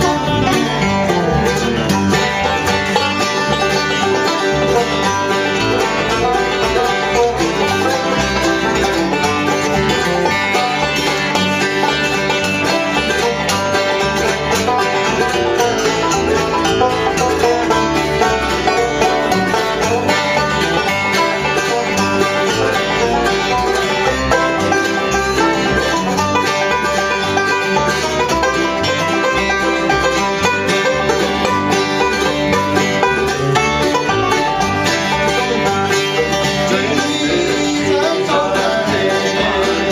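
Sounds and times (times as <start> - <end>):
banjo picking: 0.0 - 39.9
bluegrass band playing: 0.0 - 39.9.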